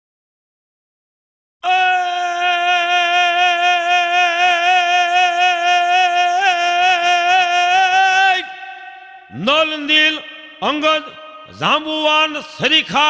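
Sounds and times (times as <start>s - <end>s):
man singing a long high note: 1.6s - 13.0s.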